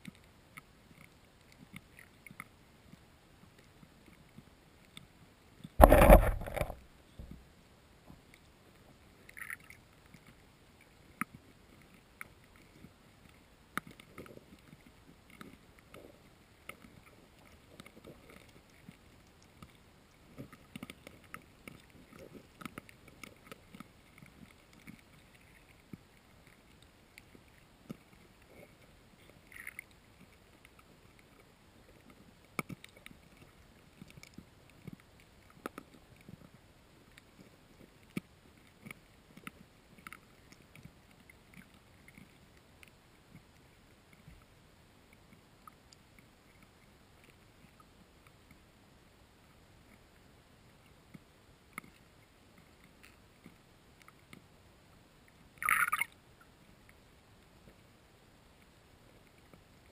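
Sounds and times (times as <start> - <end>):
soft underwater clicks and knocks: 0.0 - 8.5, 9.2 - 48.6, 50.8 - 54.6, 55.2 - 57.0.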